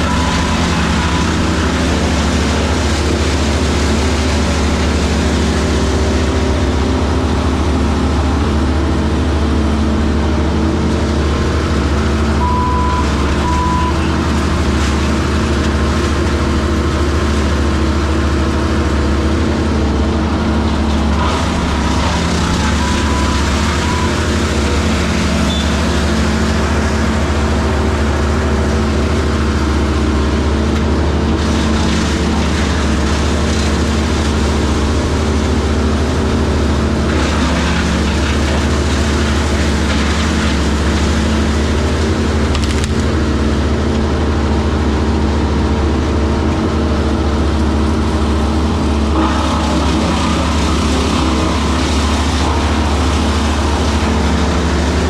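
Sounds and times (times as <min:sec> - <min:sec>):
heavy equipment engine running: 0:00.0 - 0:55.0.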